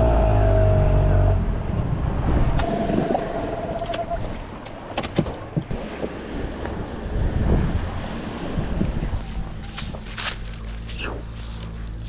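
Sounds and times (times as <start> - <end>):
boat motor humming and whining: 0.0 - 12.0
wind and water hiss: 1.5 - 12.0.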